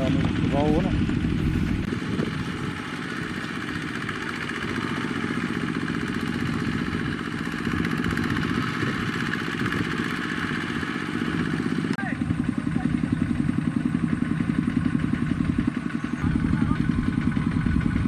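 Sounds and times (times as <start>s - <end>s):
diesel engine chugging: 0.0s - 18.0s.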